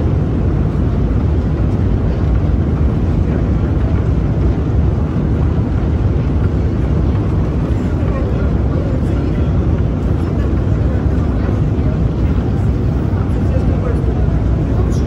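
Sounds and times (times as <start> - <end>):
escalator machinery rumbling: 0.0 - 15.0.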